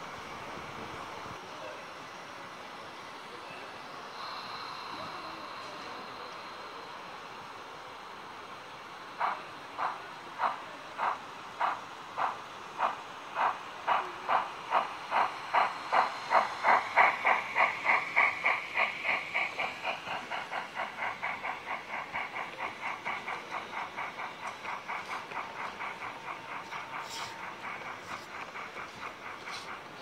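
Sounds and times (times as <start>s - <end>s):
model steam locomotive chuffing: 0.0s - 30.0s.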